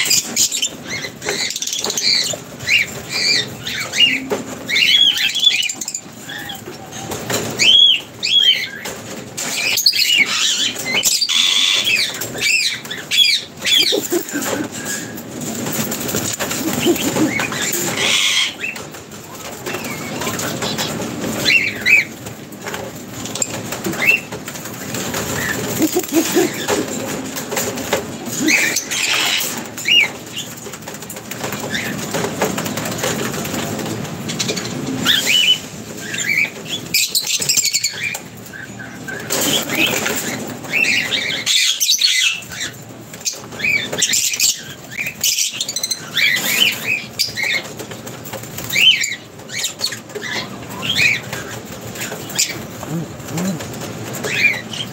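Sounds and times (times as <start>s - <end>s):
birds flapping wings: 0.0s - 54.9s.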